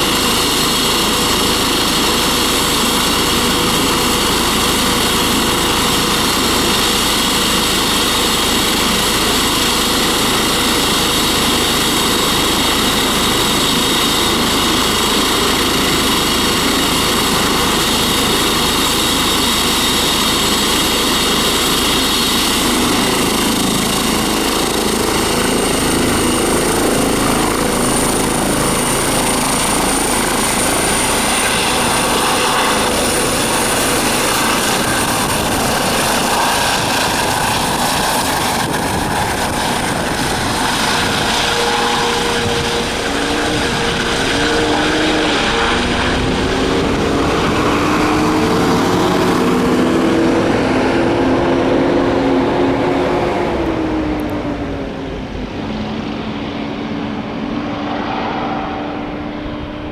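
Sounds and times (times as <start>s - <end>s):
helicopter rotor noise: 0.0s - 59.9s
helicopter turbine whine: 0.0s - 59.9s.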